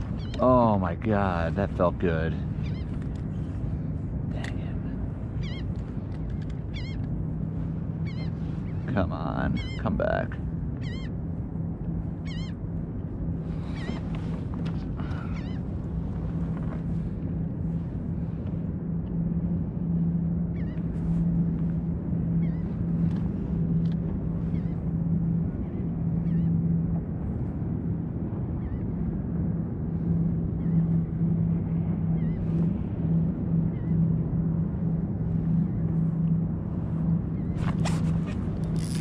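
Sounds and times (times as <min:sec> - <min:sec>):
steady low hum: 0:00.0 - 0:39.0
wind: 0:00.0 - 0:39.0.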